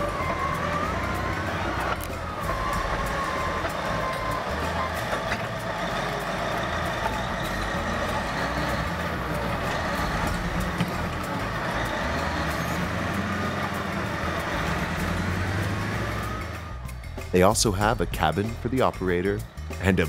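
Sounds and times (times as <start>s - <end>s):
bulldozer diesel engine under load: 0.0s - 20.0s
steel tracks clanking: 0.0s - 20.0s.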